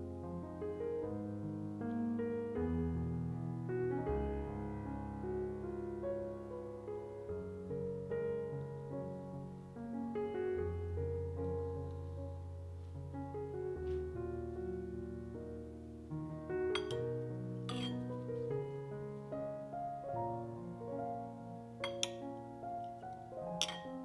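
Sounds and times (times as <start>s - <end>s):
gentle piano piece: 0.0s - 24.0s.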